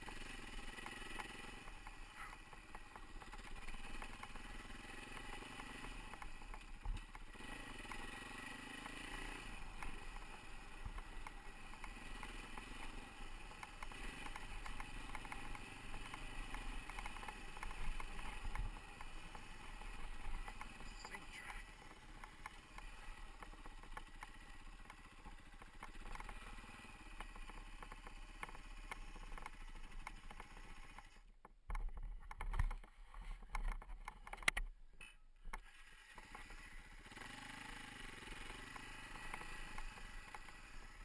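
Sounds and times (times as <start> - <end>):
dirt bike engine revving: 0.0 - 31.1, 35.6 - 41.0.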